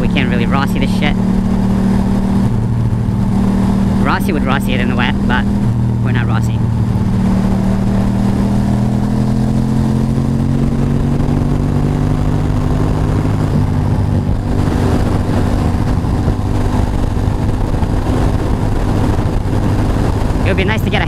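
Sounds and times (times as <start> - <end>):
motorcycle engine running: 0.0 - 21.0
wind and wet road noise: 0.0 - 21.0.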